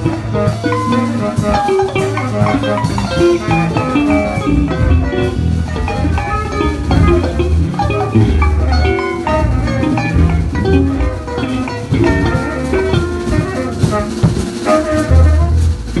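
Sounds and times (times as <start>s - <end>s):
bass guitar: 0.0s - 16.0s
drum kit: 0.0s - 16.0s
guitar lines: 0.0s - 16.0s.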